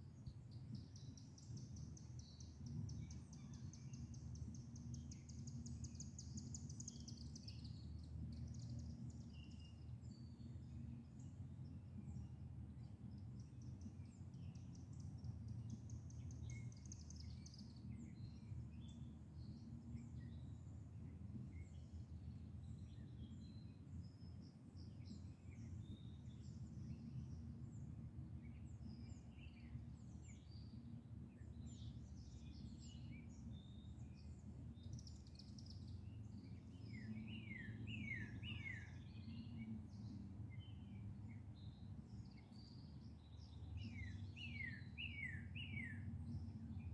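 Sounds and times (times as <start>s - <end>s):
small birds chirping and singing: 0.0s - 46.9s.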